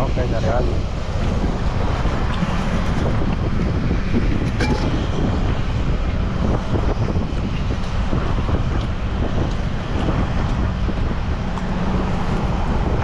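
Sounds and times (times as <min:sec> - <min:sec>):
choppy sea water: 0:00.0 - 0:13.0
wind buffeting microphone: 0:00.0 - 0:13.0.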